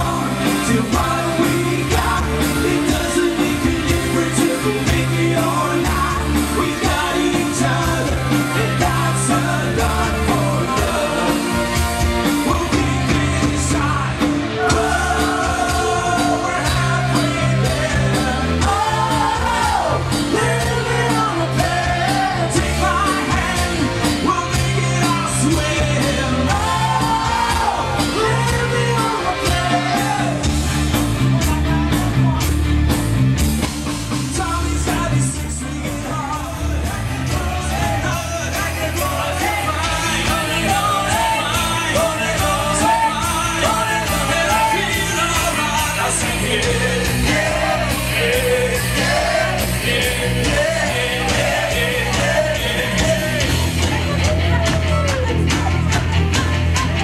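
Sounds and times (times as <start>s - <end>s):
male lead vocals: 0.0s - 32.8s, 33.8s - 57.0s
rock band playing: 0.0s - 57.0s.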